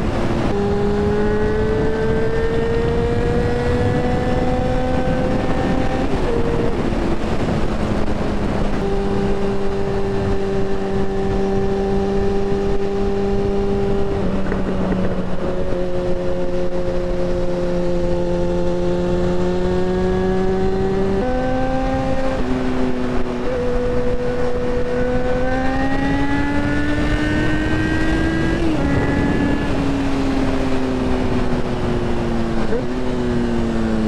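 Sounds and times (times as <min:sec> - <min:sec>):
wind and road noise: 0:00.0 - 0:34.0.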